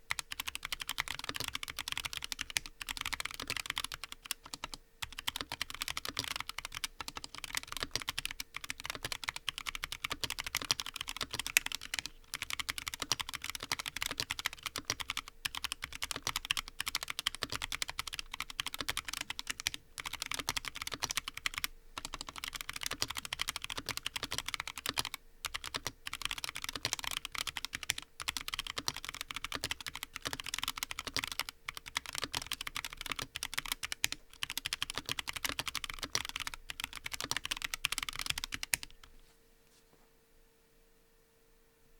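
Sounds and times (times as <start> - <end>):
fast mechanical keyboard typing: 0.1 - 39.1.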